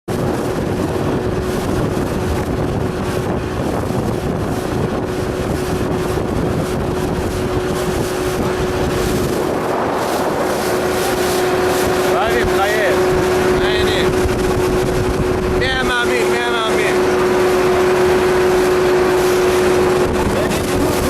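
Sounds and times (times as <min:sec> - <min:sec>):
water rushing against hull: 0:00.0 - 0:21.0
motorboat engine running: 0:00.1 - 0:21.0
wind buffeting microphone: 0:00.1 - 0:21.0.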